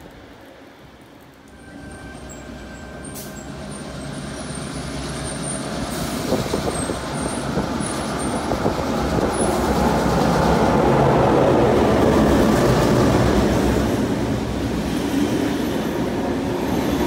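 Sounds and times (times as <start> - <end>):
diesel locomotive hauling train: 0.0 - 17.0
electric train moving: 0.0 - 17.0
train clacks: 1.0 - 17.0.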